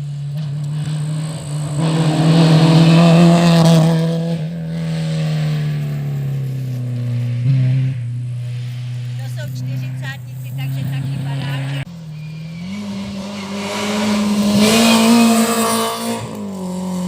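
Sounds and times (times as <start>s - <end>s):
rally car passing at speed: 0.0s - 17.0s.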